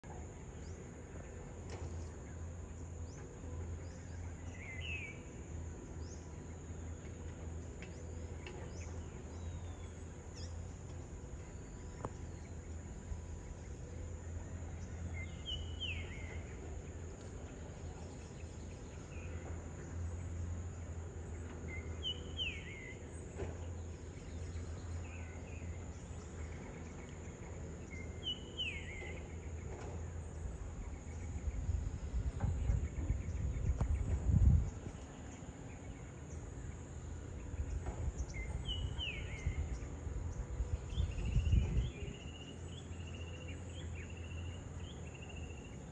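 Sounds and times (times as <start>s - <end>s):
distant excavator engine drone: 0.0s - 45.9s.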